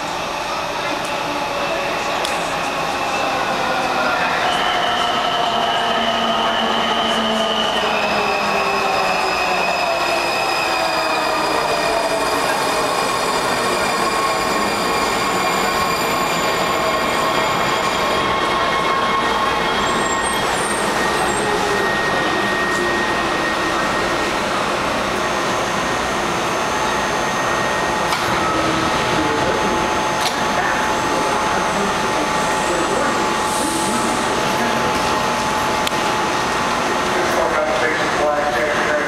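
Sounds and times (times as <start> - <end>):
train rolling on rails: 0.0 - 39.0.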